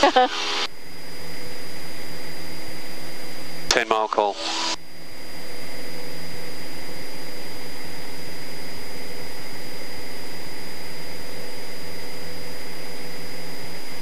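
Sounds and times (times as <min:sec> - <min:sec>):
airplane engine droning: 0:00.0 - 0:14.0
faint high whine: 0:00.0 - 0:14.0.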